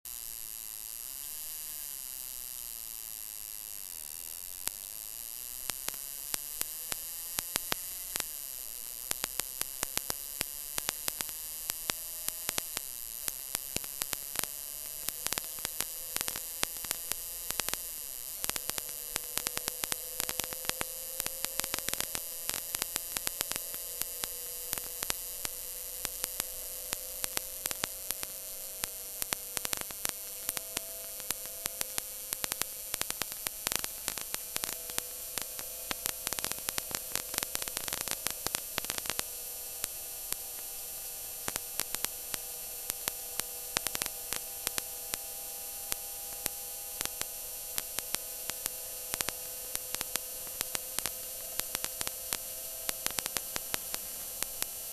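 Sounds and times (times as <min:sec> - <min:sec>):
static crackling clicks: 0:00.0 - 0:54.9
electrical hum and whine: 0:00.1 - 0:54.9.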